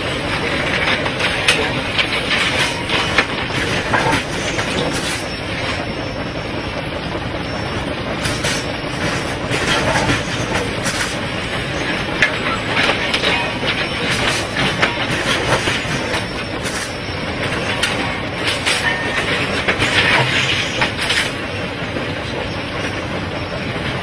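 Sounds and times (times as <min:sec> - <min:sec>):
machine rumble and hiss: 0:00.0 - 0:24.0
sharp metallic clanks: 0:00.4 - 0:06.6, 0:07.5 - 0:24.0.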